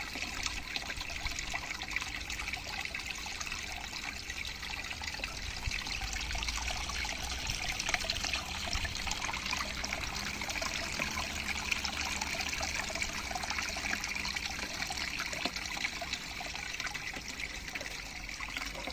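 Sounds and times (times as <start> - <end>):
small splashes and drips: 0.0 - 18.9
water trickling down a waterfall: 0.0 - 18.9.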